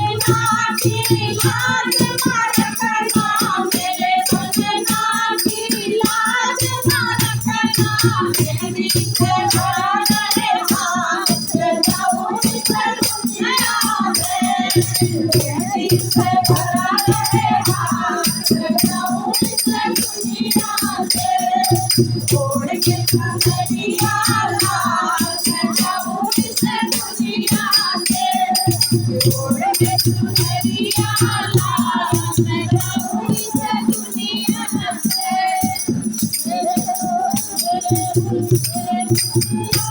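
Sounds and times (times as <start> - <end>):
person singing devotional song: 0.0 - 39.9
shaker rattle: 0.0 - 39.9.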